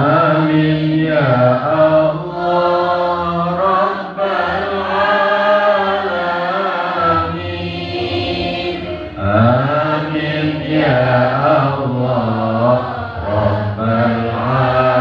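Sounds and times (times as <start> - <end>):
man chanting into a microphone: 0.0 - 7.8, 9.2 - 15.0.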